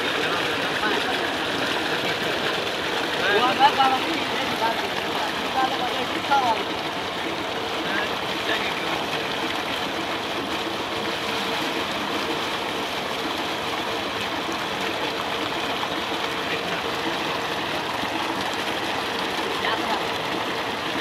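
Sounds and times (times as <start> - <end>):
water gushing from pipe into tank: 0.0 - 21.0.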